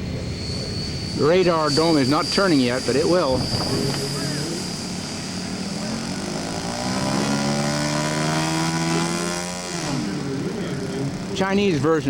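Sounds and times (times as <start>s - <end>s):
model aircraft engines running: 0.0s - 12.0s.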